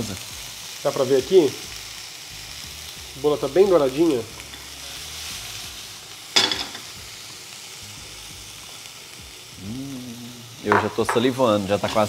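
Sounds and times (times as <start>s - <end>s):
frying pan sizzling: 0.0s - 12.0s.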